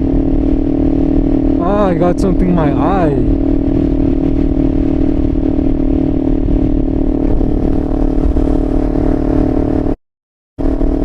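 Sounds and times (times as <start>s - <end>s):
motorcycle engine running loud: 0.0s - 10.0s, 10.6s - 11.0s.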